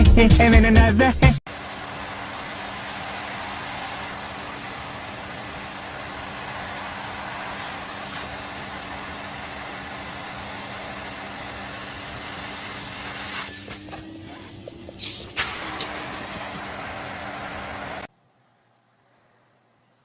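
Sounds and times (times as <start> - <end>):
mechanical hum: 1.5 - 20.0.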